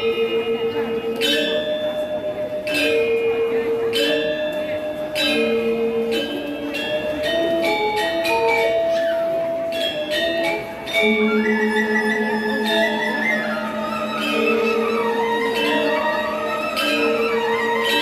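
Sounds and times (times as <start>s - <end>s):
gamelan metallophones ringing: 0.0s - 18.0s
wavering high melodic line: 0.0s - 18.0s.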